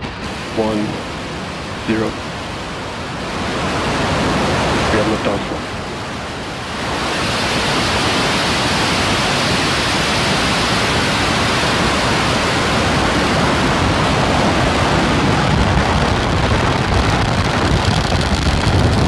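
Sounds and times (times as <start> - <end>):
rocket engines roaring: 0.0 - 19.0.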